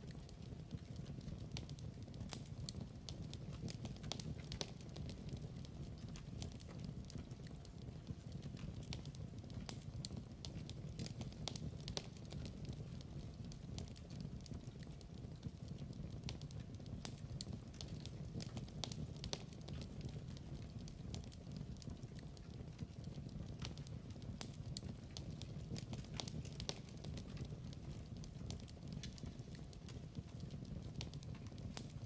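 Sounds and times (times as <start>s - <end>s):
fire crackling and popping: 0.0s - 32.0s
fire rumbling: 0.0s - 32.0s.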